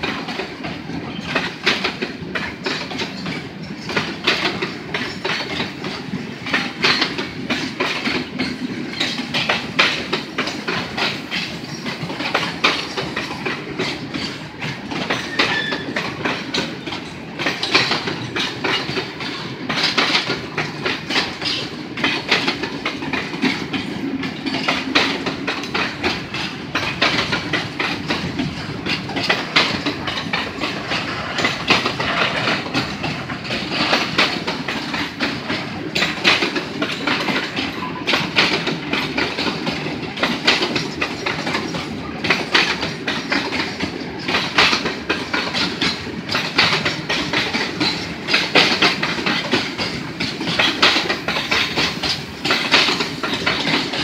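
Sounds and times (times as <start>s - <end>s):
steady train rumble: 0.0s - 54.0s
train wheels clattering over rail joints: 0.0s - 54.0s.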